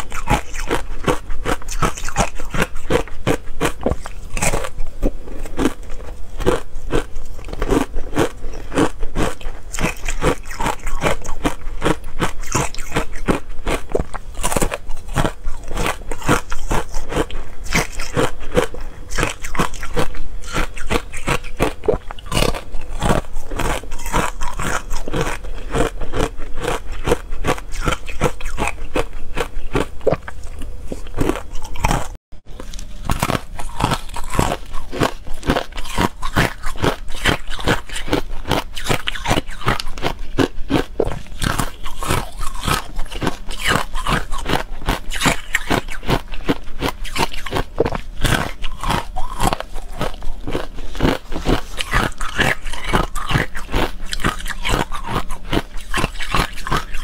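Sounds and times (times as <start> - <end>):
ice crunching while chewed: 0.0 - 57.0.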